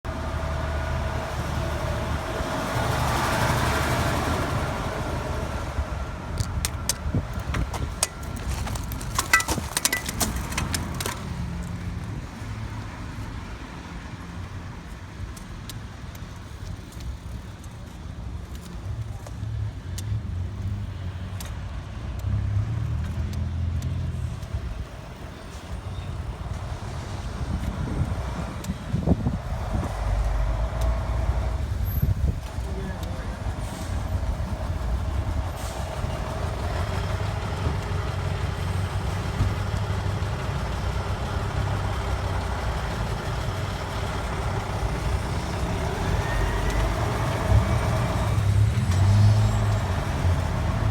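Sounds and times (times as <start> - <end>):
vehicle engines rumbling: 0.0 - 50.9.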